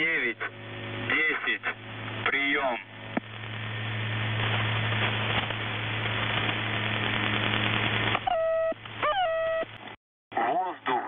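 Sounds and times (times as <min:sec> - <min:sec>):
radio static hiss: 0:00.0 - 0:10.0
steady low hum: 0:00.0 - 0:10.0.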